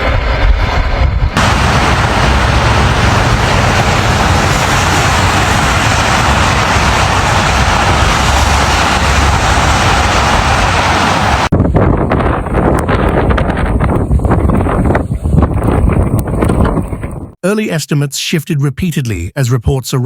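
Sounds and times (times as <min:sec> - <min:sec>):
strong wind buffeting microphone: 0:00.0 - 0:17.4.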